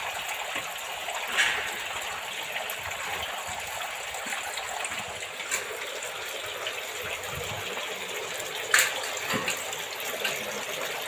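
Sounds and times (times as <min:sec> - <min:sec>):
water flowing and splashing: 0:00.0 - 0:11.0.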